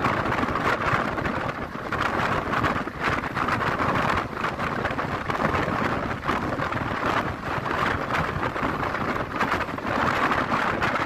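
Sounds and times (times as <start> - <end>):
passenger train running on track: 0.0 - 11.0
wind buffeting microphone: 0.0 - 11.0.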